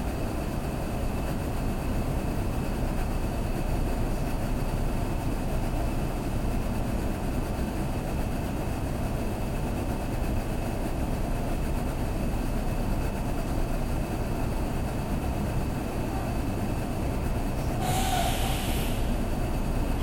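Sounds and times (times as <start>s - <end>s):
train car rumble and hiss: 0.0s - 20.0s.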